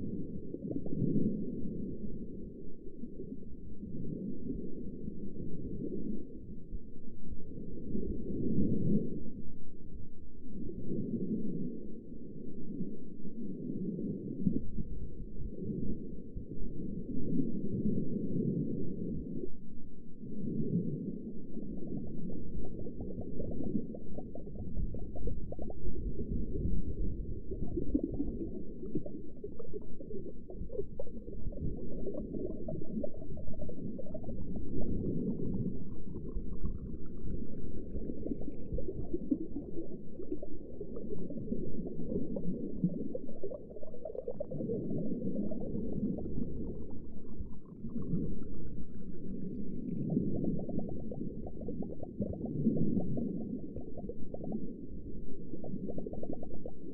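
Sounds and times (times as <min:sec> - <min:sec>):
underwater moving water: 0:00.0 - 0:56.9
water bubbling and gurgling: 0:00.0 - 0:56.9.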